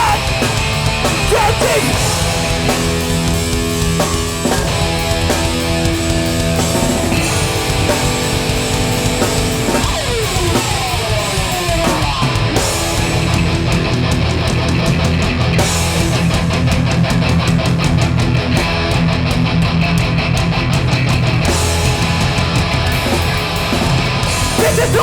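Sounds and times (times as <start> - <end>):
distorted electric guitars: 0.0 - 25.0
fast drumming: 0.0 - 25.0.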